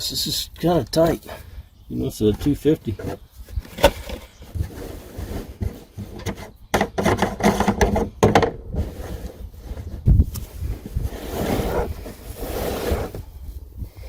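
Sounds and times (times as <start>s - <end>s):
knocks scrapes and shuffling: 0.1s - 14.0s.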